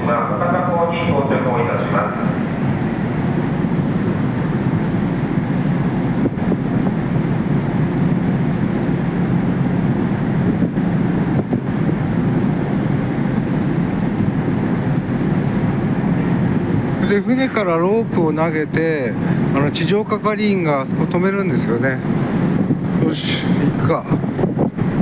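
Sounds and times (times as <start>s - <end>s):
ship engines rumbling: 0.0s - 25.0s.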